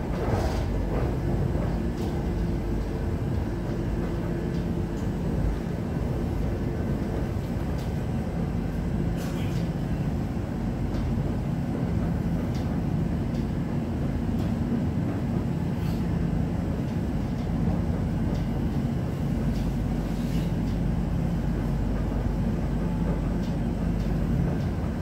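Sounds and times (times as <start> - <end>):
train rumbling from inside carriage: 0.0 - 25.0.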